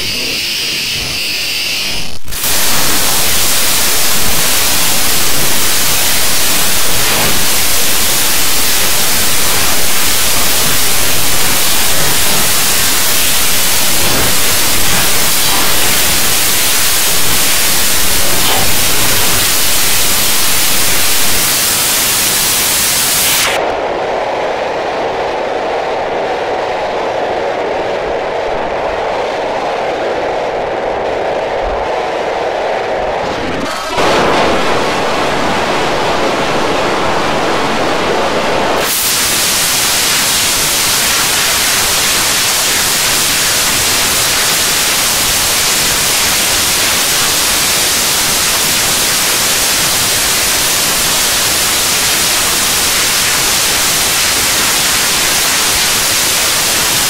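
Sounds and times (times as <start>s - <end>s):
static hiss of white noise: 0.0s - 57.0s.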